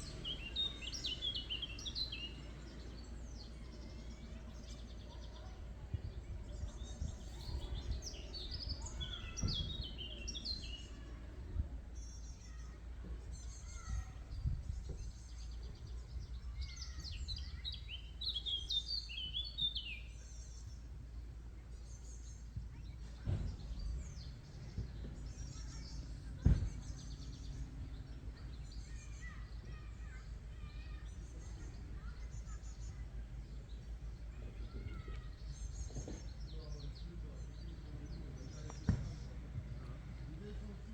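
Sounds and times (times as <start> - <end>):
low outdoor rumble: 0.0 - 19.1, 19.9 - 40.9
songbirds chirping: 0.0 - 40.9.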